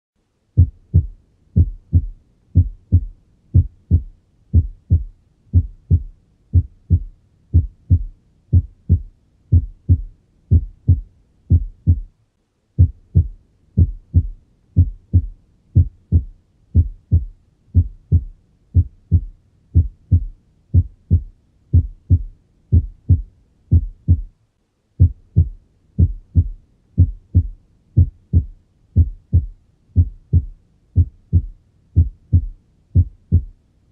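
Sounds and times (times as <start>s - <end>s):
heartbeat lub-dub: 0.6s - 12.2s, 12.8s - 24.4s, 25.0s - 33.6s.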